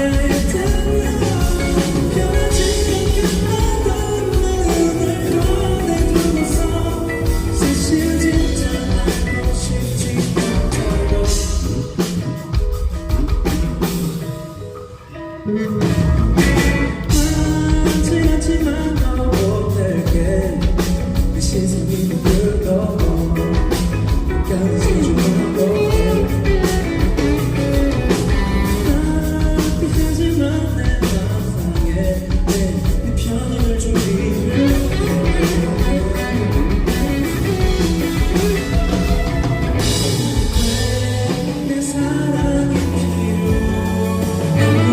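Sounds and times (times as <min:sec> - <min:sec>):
live pop-rock band: 0:00.0 - 0:44.9
person singing: 0:00.0 - 0:44.9.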